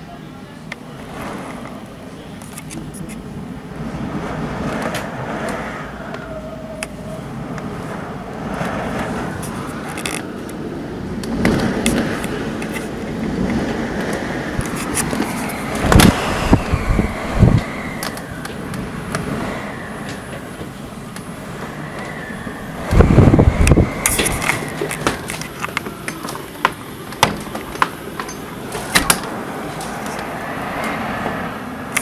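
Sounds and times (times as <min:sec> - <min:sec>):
rushing wind: 0:00.0 - 0:32.0
wind gusts buffeting microphone: 0:00.3 - 0:32.0.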